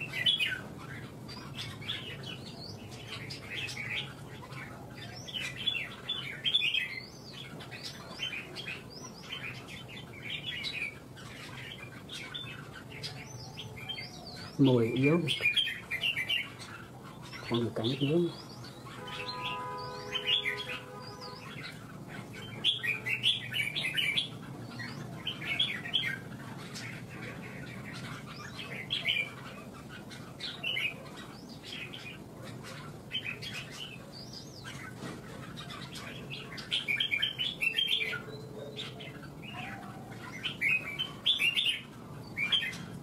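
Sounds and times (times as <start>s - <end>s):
birds singing warbled phrases: 0.0s - 43.0s.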